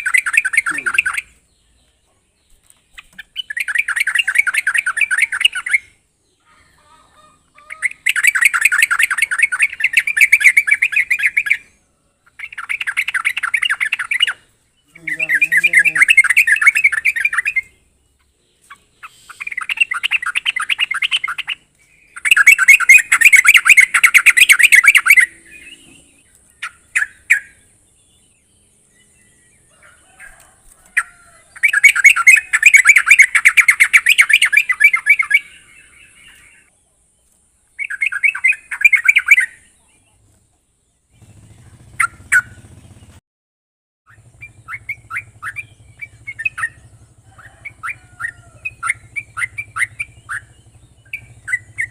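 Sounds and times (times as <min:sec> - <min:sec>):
bird chattering song: 0:00.0 - 0:43.2, 0:44.1 - 0:51.9.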